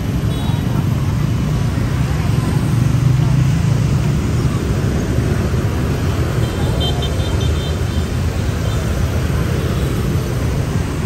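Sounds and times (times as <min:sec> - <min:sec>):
motorbike traffic rumble: 0:00.0 - 0:11.0.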